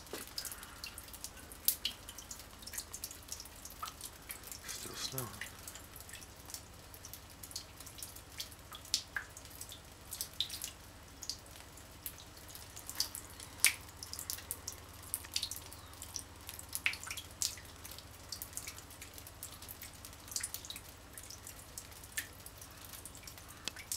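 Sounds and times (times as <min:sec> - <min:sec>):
water dripping: 0:00.0 - 0:23.9.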